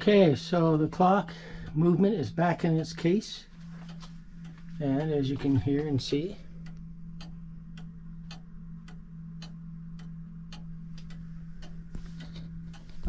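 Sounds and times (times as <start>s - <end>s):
pendulum clock ticking: 0.0s - 13.0s
steady low hum: 0.0s - 13.0s.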